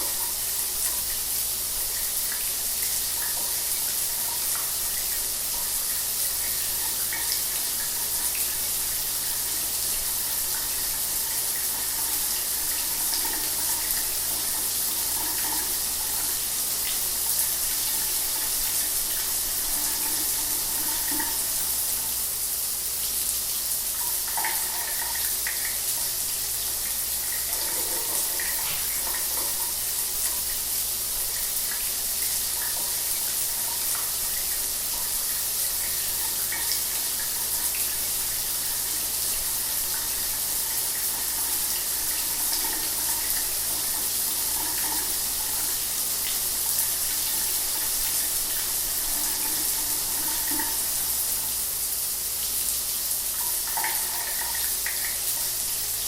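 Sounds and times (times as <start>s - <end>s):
shower water running: 0.0s - 56.0s.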